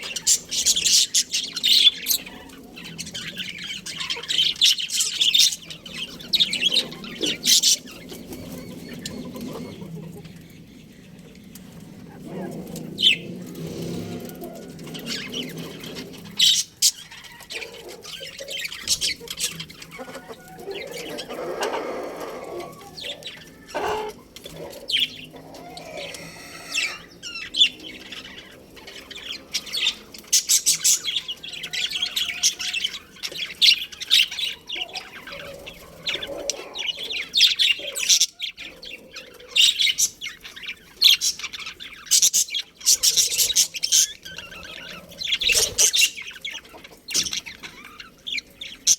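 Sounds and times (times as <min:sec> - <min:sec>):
budgerigars chirping and chattering: 0:00.0 - 0:48.9.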